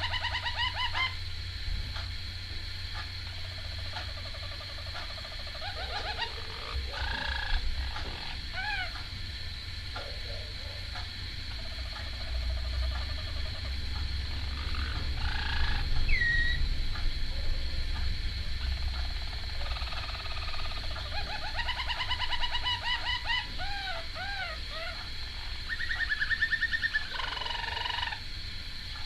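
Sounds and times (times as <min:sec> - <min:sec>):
canary singing trills: 0:00.0 - 0:01.3, 0:02.9 - 0:28.2
low background rumble: 0:00.0 - 0:29.0.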